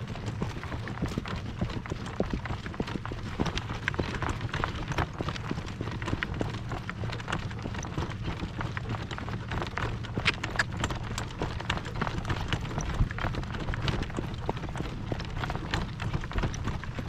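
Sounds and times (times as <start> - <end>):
horse hooves striking ground: 0.0 - 17.0
wind rumble on microphone: 0.0 - 17.0.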